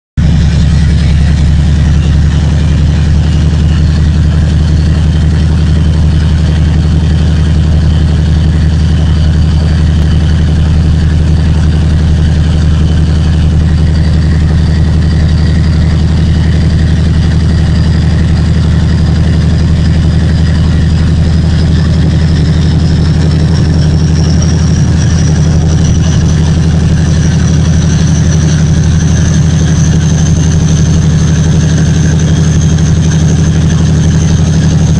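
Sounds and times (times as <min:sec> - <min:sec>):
diesel locomotive engine droning: 0:00.2 - 0:34.9
high whine rising in pitch: 0:00.2 - 0:34.9.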